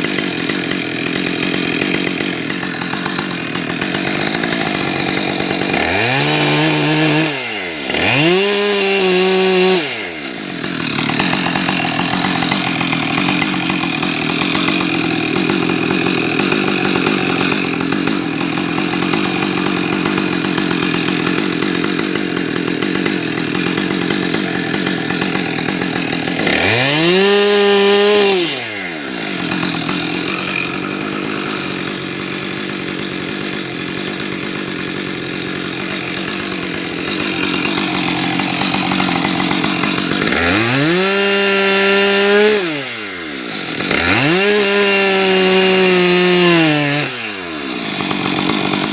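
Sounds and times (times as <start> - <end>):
chainsaw cutting wood: 0.0 - 48.9
chainsaw revving: 0.0 - 48.9.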